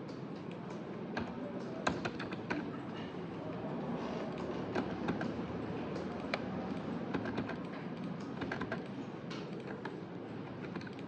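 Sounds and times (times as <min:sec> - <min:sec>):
low office hum: 0:00.0 - 0:11.0.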